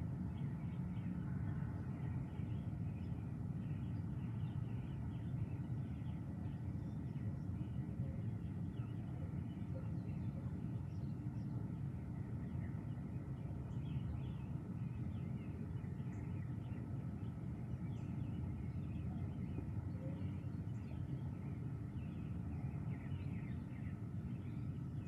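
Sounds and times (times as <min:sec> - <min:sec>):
low background rumble: 0:00.0 - 0:25.0
birds chirping: 0:00.4 - 0:25.0.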